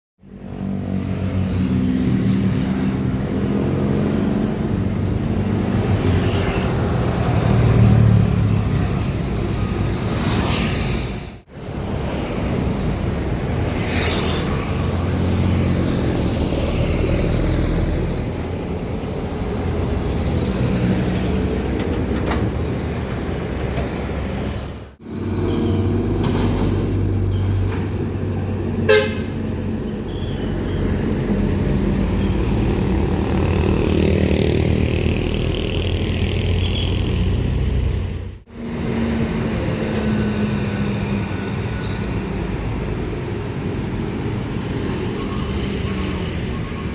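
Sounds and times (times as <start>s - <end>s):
trucks passing on road: 0.2s - 46.9s.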